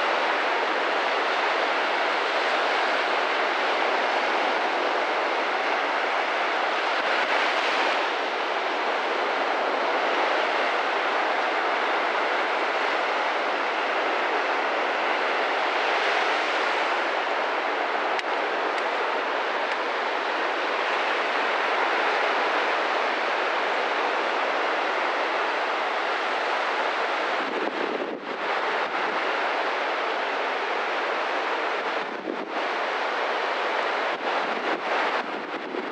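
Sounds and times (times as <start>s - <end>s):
surf breaking on beach: 0.0s - 35.9s.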